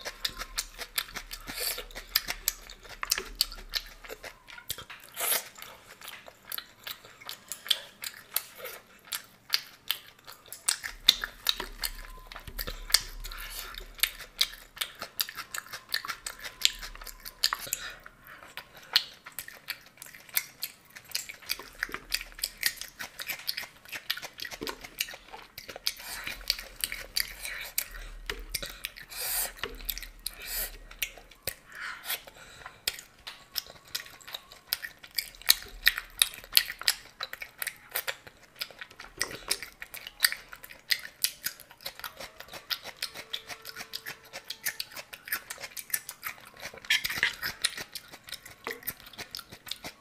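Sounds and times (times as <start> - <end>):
wet mouth sounds: 0.0 - 50.0.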